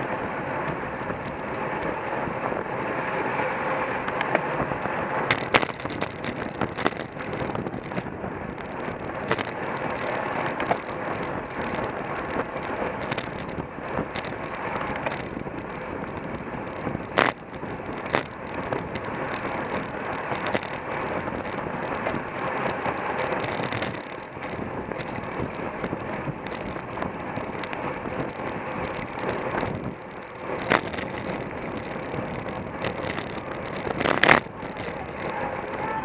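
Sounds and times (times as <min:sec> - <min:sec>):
bicycle road noise: 0:00.0 - 0:36.0
wind rushing over microphone: 0:00.0 - 0:36.0.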